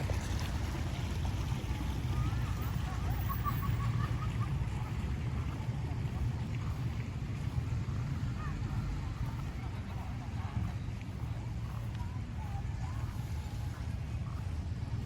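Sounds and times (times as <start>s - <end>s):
faint distant voices: 0.0s - 15.0s
steady low rumble: 0.0s - 15.0s.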